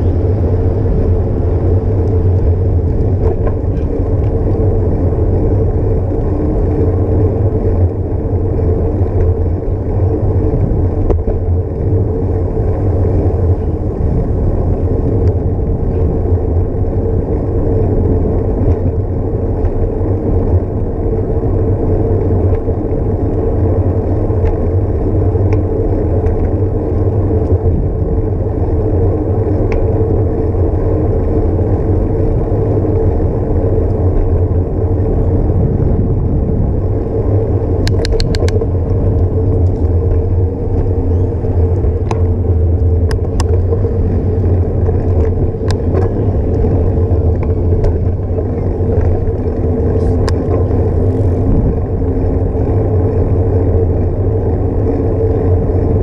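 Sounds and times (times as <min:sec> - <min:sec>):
bicycle tyre noise: 0:00.0 - 0:56.0
wind buffeting: 0:00.0 - 0:56.0.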